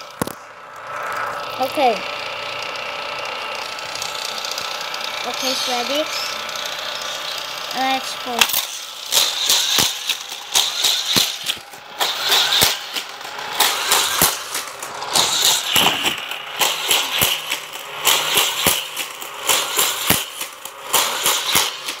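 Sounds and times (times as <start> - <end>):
toy cars clattering on track: 0.0 - 22.0
toy track booster whirring: 0.0 - 22.0.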